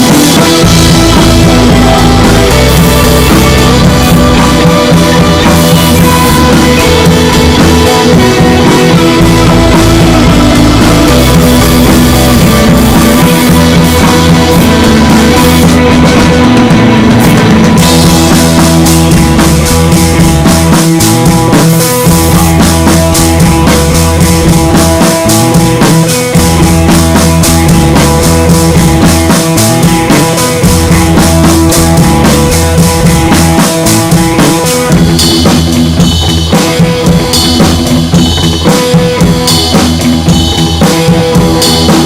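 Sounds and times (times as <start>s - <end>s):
loud music with drum beat: 0.0s - 42.0s.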